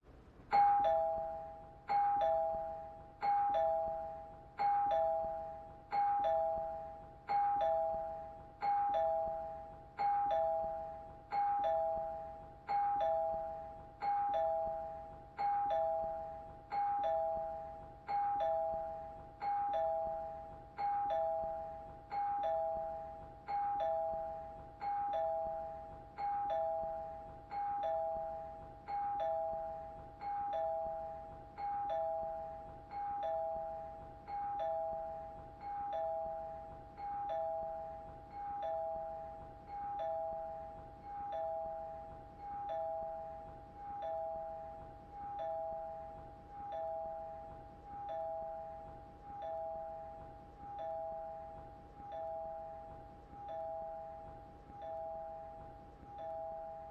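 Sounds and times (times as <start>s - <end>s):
two-tone doorbell chime: 0.5s - 56.9s.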